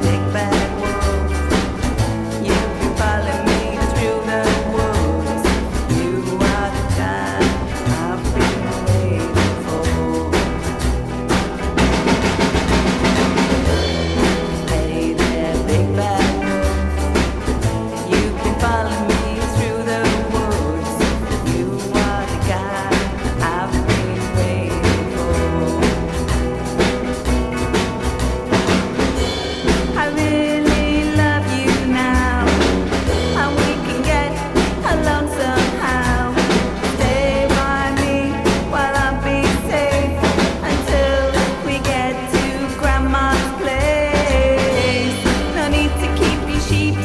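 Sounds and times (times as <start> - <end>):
drum beat: 0.0 - 47.0
pulsing bass: 0.0 - 47.0.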